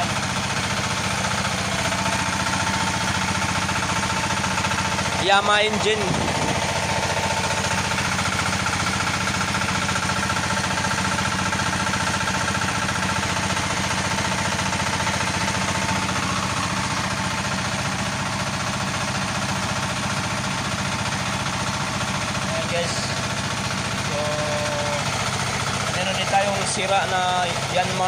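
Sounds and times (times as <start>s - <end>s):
small diesel engine running: 0.0s - 28.0s.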